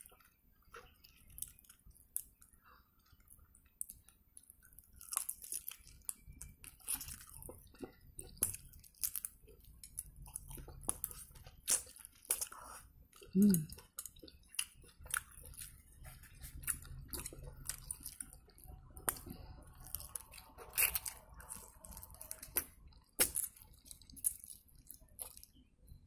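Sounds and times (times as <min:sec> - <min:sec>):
person chewing noodles: 0:00.0 - 0:25.7.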